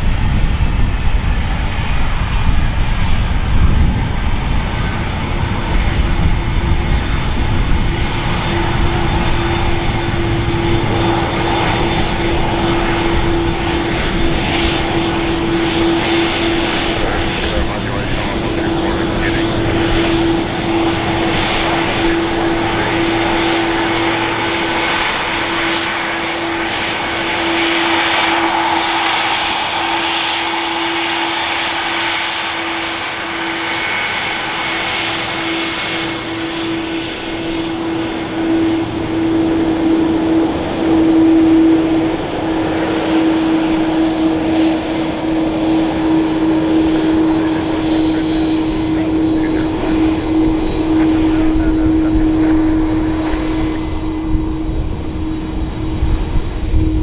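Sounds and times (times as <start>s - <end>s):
jet airliner engines taxiing: 0.0s - 57.0s.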